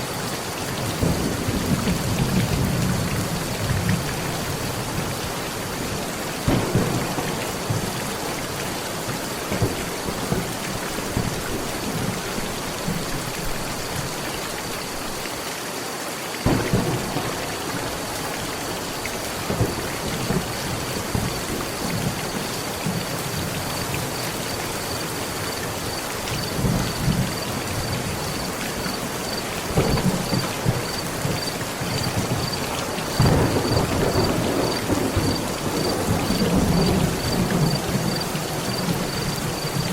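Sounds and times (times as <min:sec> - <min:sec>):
heavy rain on a metal roof: 0:00.0 - 0:39.9
thunder rumbling: 0:00.8 - 0:15.0, 0:16.4 - 0:39.9.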